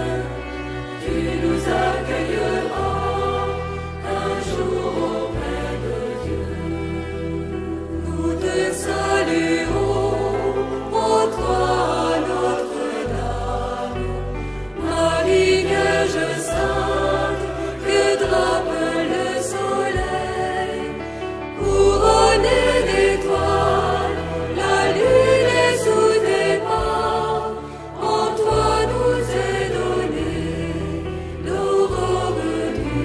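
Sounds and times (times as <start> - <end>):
choir singing a hymn: 0.0 - 33.0.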